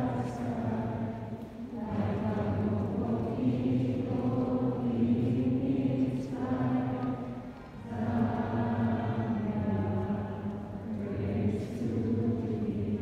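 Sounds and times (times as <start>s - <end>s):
group singing held notes: 0.0s - 13.0s.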